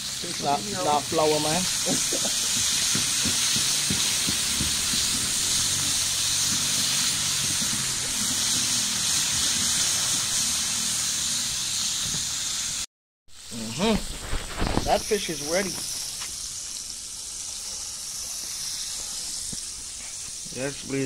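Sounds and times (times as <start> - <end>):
oil popping: 0.0 - 12.4, 13.9 - 20.8
fish deep-frying in oil: 0.0 - 21.0.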